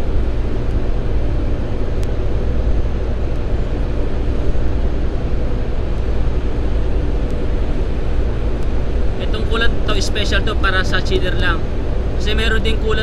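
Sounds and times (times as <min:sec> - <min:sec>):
hvac machinery drone: 0:00.0 - 0:13.0.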